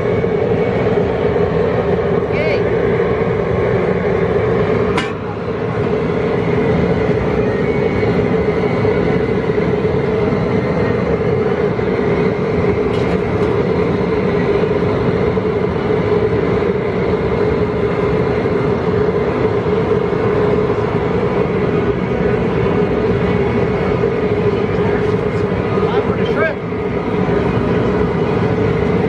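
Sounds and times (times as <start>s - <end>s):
gas burner roaring: 0.0s - 29.0s.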